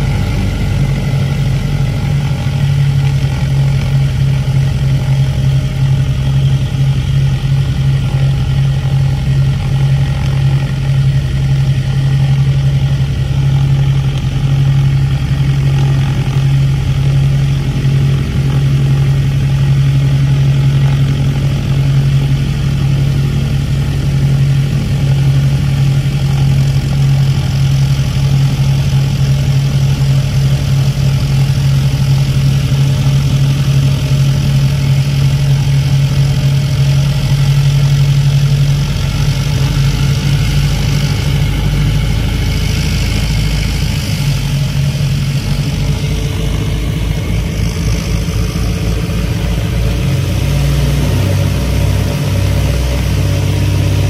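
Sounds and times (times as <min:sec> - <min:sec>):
piston aircraft engines droning: 0:00.0 - 0:54.0.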